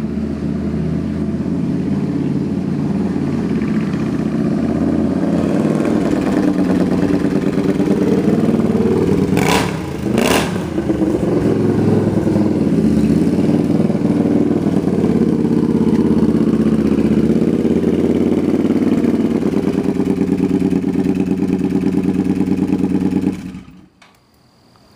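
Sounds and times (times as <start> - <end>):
motorcycle engine running: 0.0 - 24.0
sharp exhaust cracks: 2.4 - 24.3.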